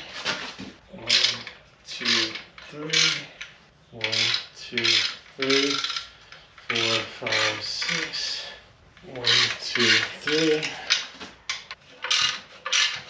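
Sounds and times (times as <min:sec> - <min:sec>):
hand ratchet clicking: 0:01.1 - 0:08.2, 0:09.2 - 0:13.0.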